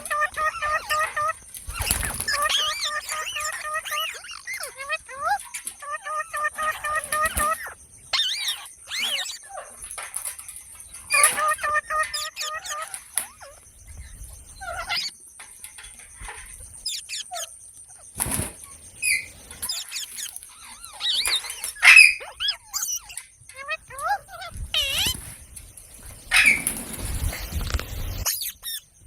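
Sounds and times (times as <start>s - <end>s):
parrot chirping and squawking: 0.0s - 15.2s, 16.2s - 18.1s, 19.0s - 25.4s, 26.3s - 29.0s.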